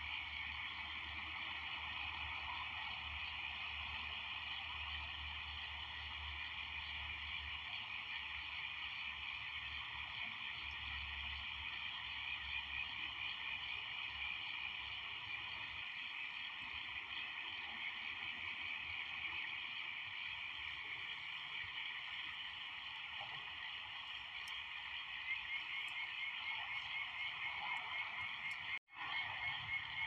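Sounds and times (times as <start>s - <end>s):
frogs calling: 0.0s - 30.0s.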